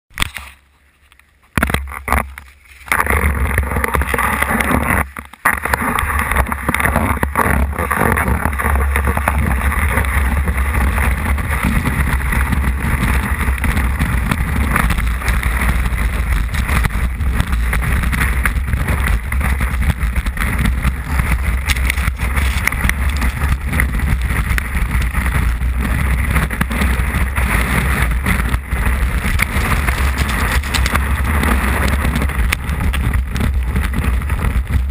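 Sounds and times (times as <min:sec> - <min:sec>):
skis scraping on snow: 0:01.8 - 0:34.9
wind buffeting microphone: 0:05.8 - 0:34.9.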